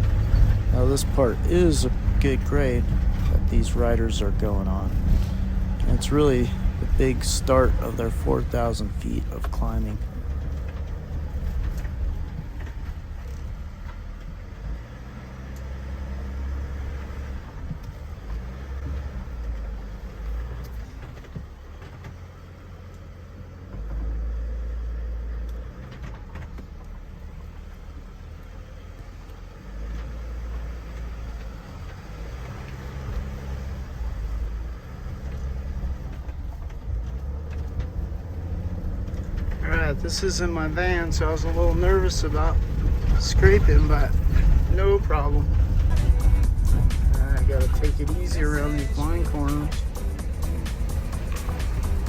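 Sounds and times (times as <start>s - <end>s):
van engine and tyre rumble: 0.0s - 52.0s.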